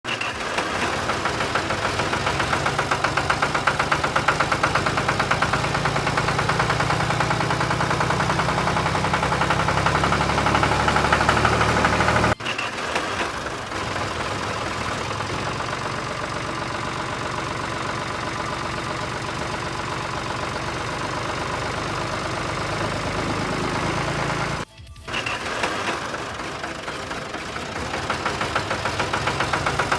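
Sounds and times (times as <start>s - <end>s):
engine chugging at idle: 0.0s - 29.9s.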